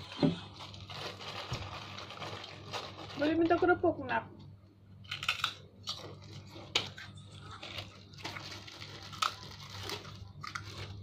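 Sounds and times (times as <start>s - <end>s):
crackers crunching: 0.0s - 3.6s, 4.9s - 11.0s
plastic bag rustling: 0.0s - 3.8s, 6.0s - 11.0s.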